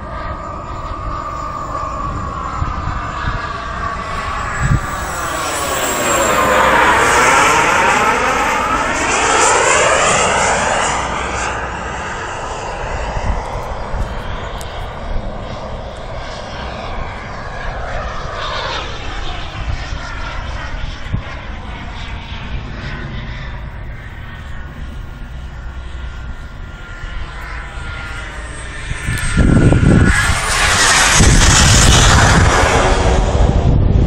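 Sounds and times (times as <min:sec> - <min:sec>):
model airplane motor whine: 0:00.0 - 0:34.0.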